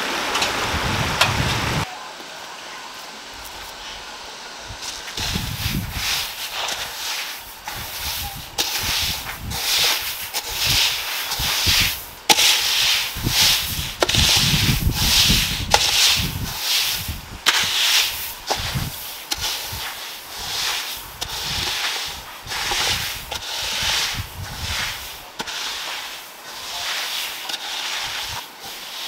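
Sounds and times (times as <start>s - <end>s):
rough scraping strokes: 4.7s - 29.0s.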